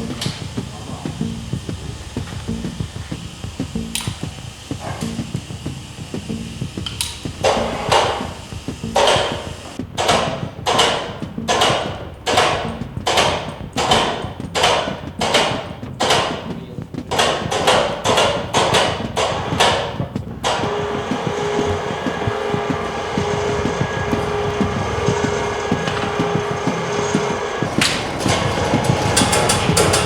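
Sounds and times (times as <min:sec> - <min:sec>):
hammer blows on wooden frame: 0:00.0 - 0:30.0
steady hum: 0:00.0 - 0:30.0.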